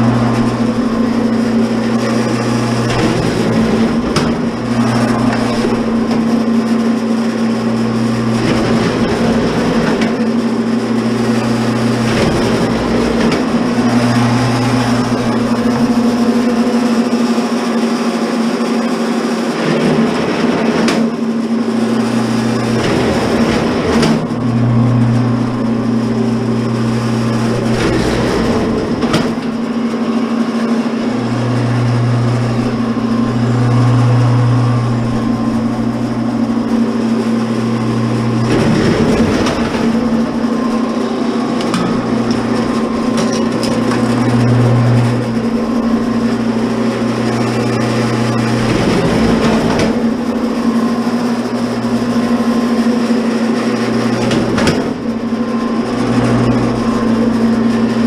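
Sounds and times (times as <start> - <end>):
deeper hum of wire feeding: 0.0 - 17.3, 19.6 - 58.0
wire stripper motor humming: 0.0 - 58.0.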